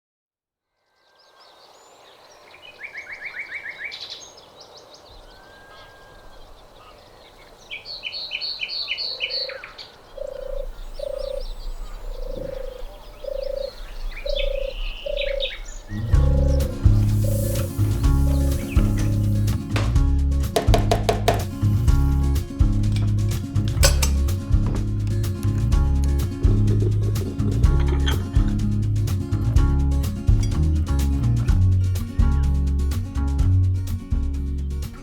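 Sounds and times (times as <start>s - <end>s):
birds chirping and trilling: 0.9s - 31.4s.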